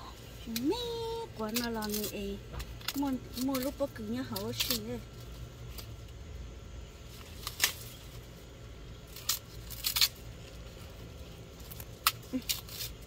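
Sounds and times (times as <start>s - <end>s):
low steady rumble: 0.0s - 13.0s
dry tearing sounds: 0.5s - 6.1s, 7.1s - 13.0s.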